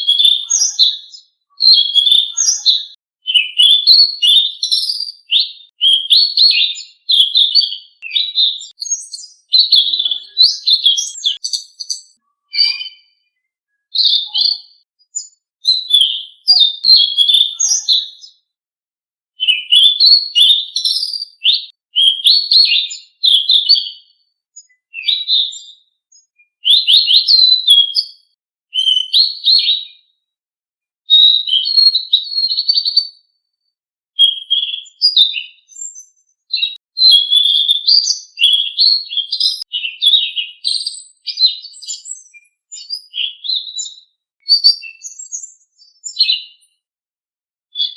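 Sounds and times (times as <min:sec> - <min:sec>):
songbird chirping and warbling: 0:00.0 - 0:18.5, 0:19.4 - 0:28.2, 0:34.2 - 0:46.7.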